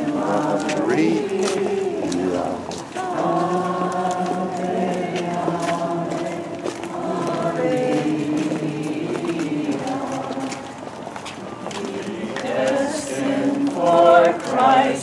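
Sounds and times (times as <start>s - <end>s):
group singing a hymn: 0.0s - 15.0s.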